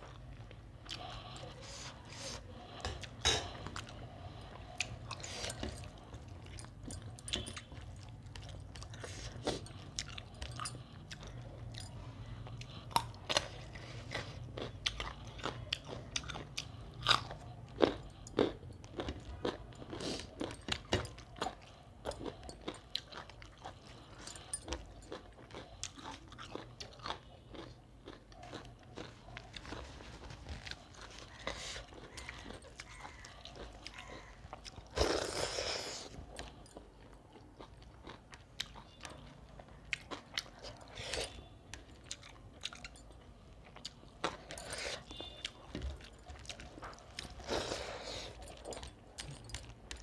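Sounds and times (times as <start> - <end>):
person chewing crunchy food: 0.0 - 50.0.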